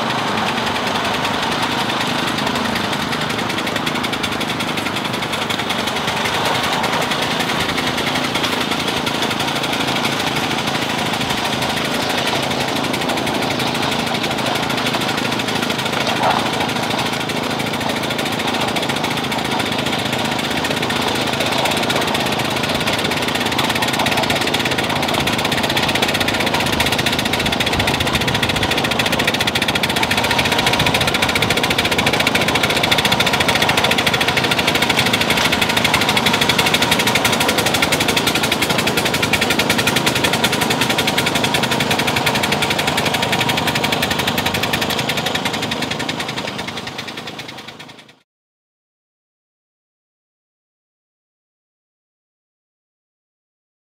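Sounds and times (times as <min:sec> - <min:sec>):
small engine knocking: 0:00.0 - 0:48.2.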